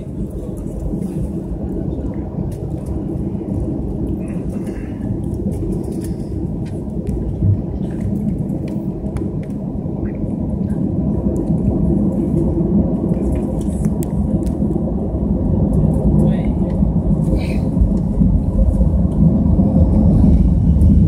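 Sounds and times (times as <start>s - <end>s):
aircraft engines rumbling in cabin: 0.0s - 21.0s.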